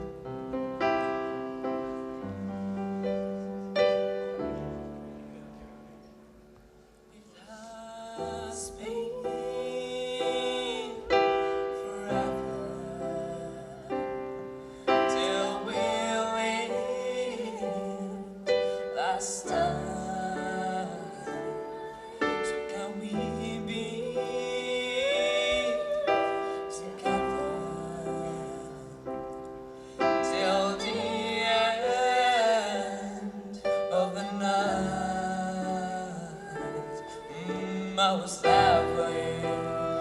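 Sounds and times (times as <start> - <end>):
piano melody: 0.0 - 40.0.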